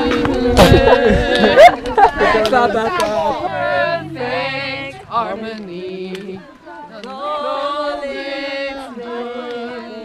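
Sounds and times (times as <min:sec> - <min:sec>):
people singing a chant: 0:00.0 - 0:10.0.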